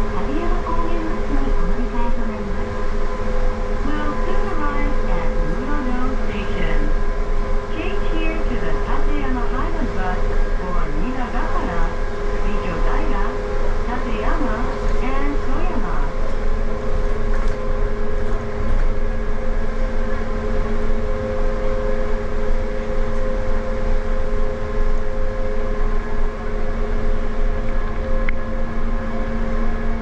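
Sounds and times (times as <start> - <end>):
electric bus humming: 0.0 - 30.0
low rumble: 0.0 - 30.0.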